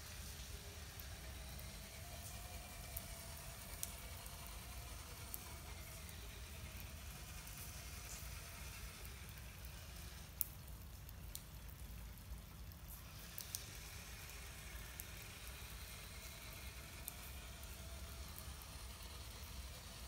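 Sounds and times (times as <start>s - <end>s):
light rain hiss: 0.0s - 20.0s
raindrop ticks: 0.0s - 20.0s.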